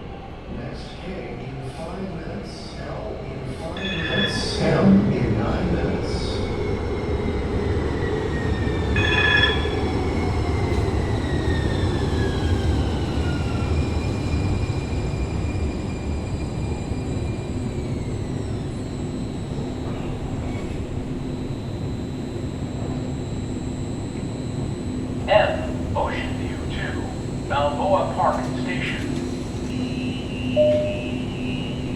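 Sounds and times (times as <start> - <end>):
train low rumble: 0.0 - 31.9.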